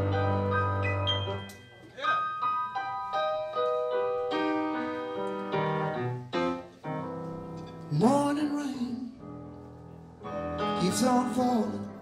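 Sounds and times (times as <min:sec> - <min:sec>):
slow blues on keyboard piano: 0:00.0 - 0:12.0.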